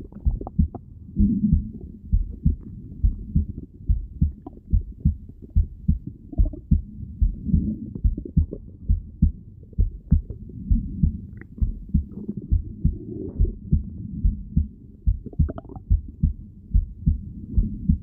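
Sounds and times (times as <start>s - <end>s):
faint gurgles: 0.0s - 16.4s
heartbeat thumps: 0.0s - 18.0s.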